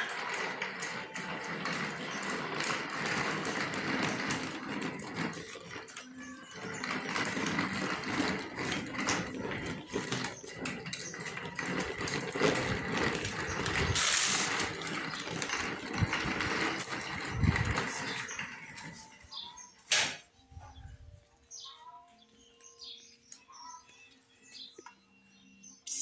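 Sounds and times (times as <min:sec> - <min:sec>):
plastic wheels rattling on concrete: 0:00.0 - 0:21.8.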